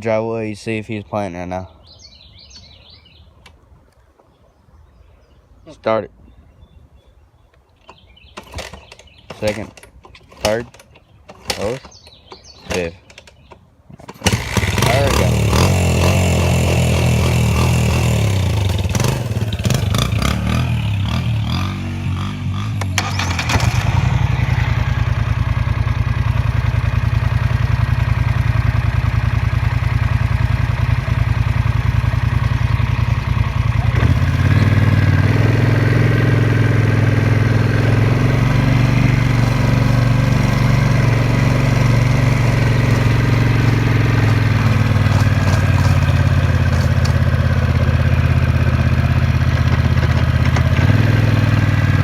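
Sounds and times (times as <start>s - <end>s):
small off-road engine running: 8.2s - 52.0s.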